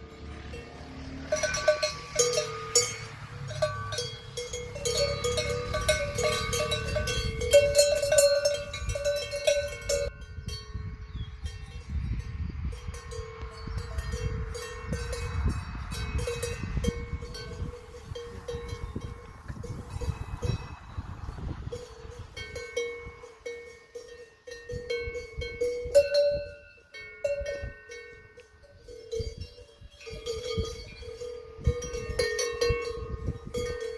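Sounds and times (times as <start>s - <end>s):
cowbells clanking: 0.0s - 33.9s.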